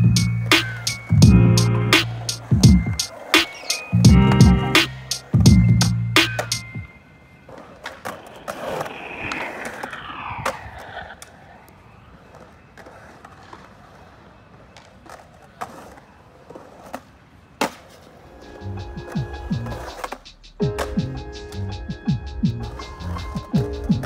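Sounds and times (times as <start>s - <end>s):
skateboard clacks: 0.0s - 21.7s, 22.6s - 24.0s
skateboard wheels rolling on concrete: 0.0s - 24.0s.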